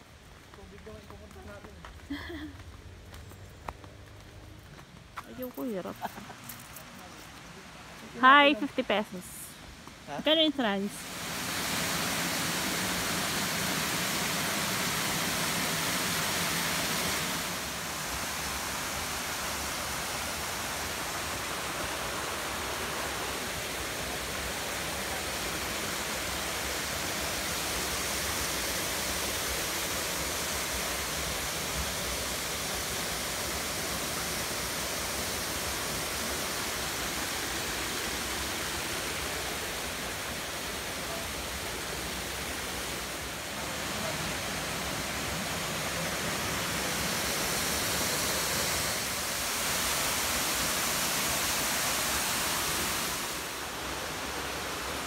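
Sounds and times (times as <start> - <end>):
waterfall rushing: 7.3 - 55.0.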